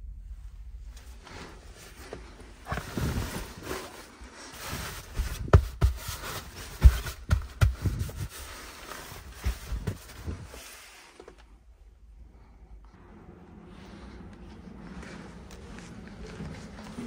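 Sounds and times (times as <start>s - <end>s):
bedsheets rustling: 0.8s - 11.8s, 13.0s - 17.0s.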